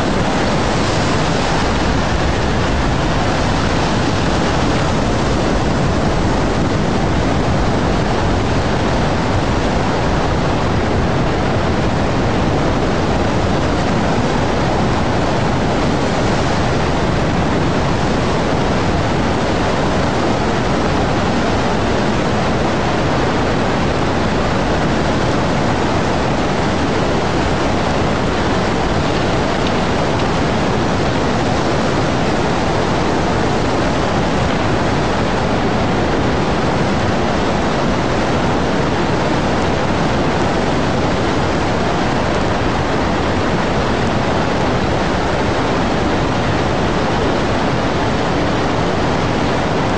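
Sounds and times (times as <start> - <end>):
floodwater rushing: 0.0 - 49.9.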